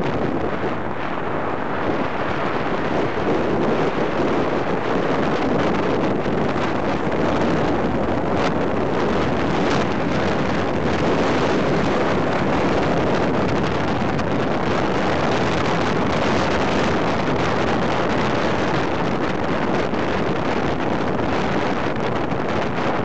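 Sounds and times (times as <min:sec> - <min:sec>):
motorcycle running with road noise: 0:00.0 - 0:23.0
wind buffeting microphone: 0:00.0 - 0:23.0.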